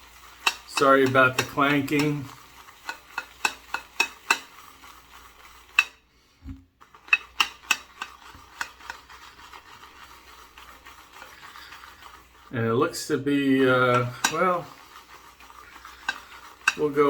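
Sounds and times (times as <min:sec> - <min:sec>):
brush clanking against metal bowl: 0:00.0 - 0:06.0, 0:06.8 - 0:17.0
shaving brush swishing lather: 0:00.0 - 0:17.0.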